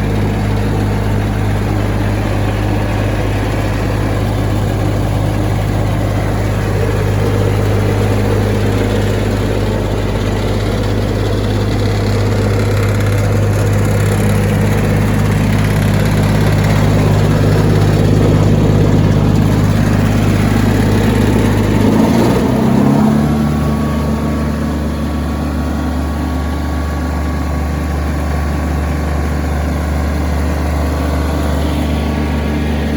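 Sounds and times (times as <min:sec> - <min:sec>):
wood chipper diesel engine running: 0:00.0 - 0:32.9.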